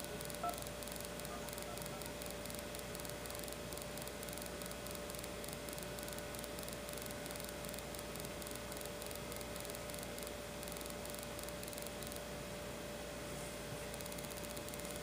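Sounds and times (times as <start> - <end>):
faint steady whine: 0.0 - 15.0
soft pulsing high hiss: 0.0 - 15.0
tape hiss and hum: 0.0 - 15.0.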